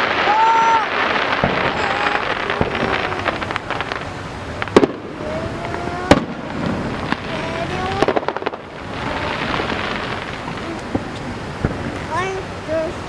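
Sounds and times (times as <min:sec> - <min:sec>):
loud firework bangs: 0:00.0 - 0:12.6
fireworks crackling: 0:00.0 - 0:13.0.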